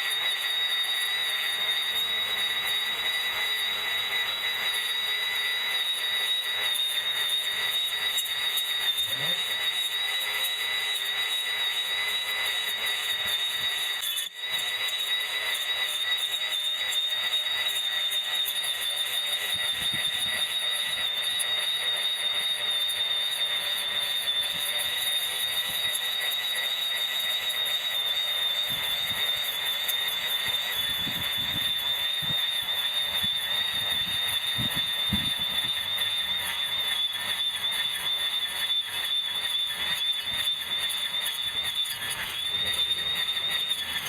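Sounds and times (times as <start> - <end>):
electric grass trimmer whining: 0.0 - 44.0.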